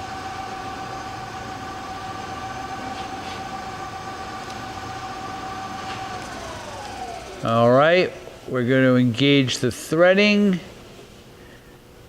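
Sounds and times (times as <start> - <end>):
lathe running with whine: 0.0 - 12.0.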